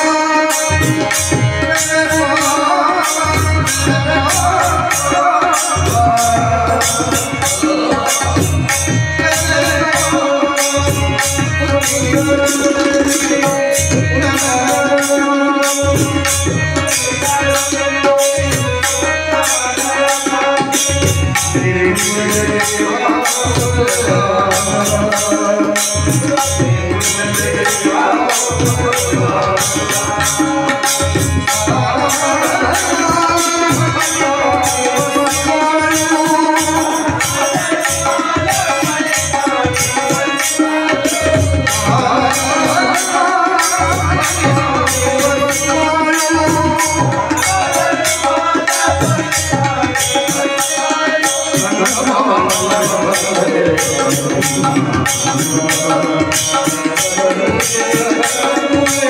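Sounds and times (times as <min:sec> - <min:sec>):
harmonium: 0:00.0 - 0:59.0
man singing devotional song: 0:00.0 - 0:59.0
tabla rhythm: 0:00.0 - 0:59.0.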